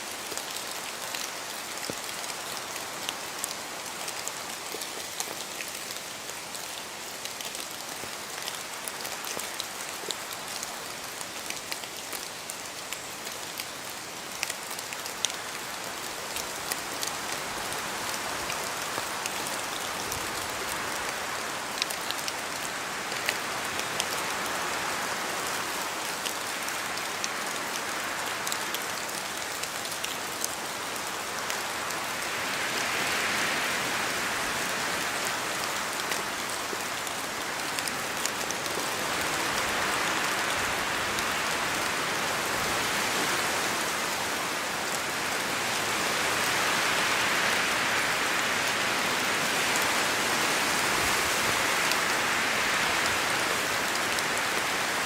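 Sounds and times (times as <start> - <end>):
steady rain in forest: 0.0 - 55.0
wind gusts through trees: 0.0 - 55.0.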